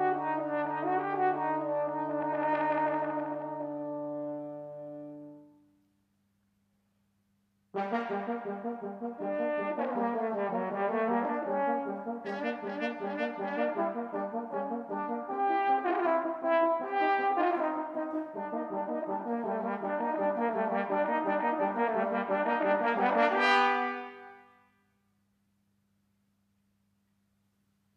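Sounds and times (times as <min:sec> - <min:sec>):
french horns duet: 0:00.0 - 0:05.7, 0:07.8 - 0:24.6.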